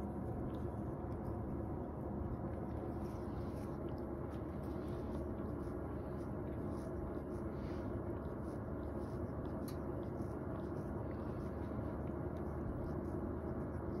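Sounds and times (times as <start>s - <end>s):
cat licking fur: 0.0s - 14.0s.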